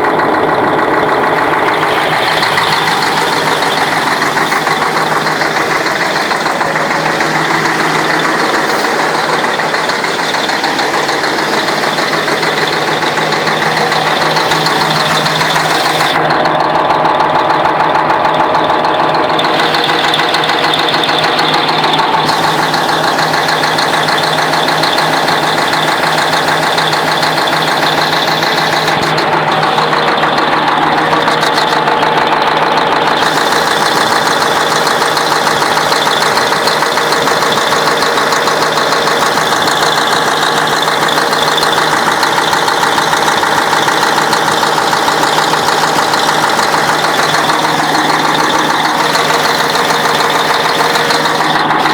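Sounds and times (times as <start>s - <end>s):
diesel engine running: 0.0s - 51.9s
engine knock: 0.0s - 51.9s.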